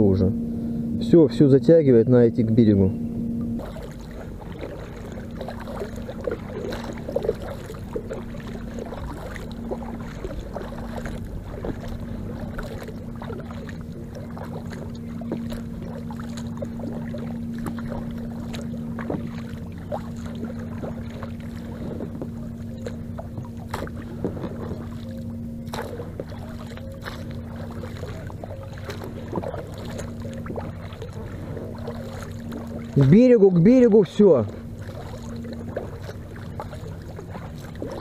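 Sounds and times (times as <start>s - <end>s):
steady low hum: 0.0s - 38.0s
paddle strokes and splashes: 3.4s - 38.0s.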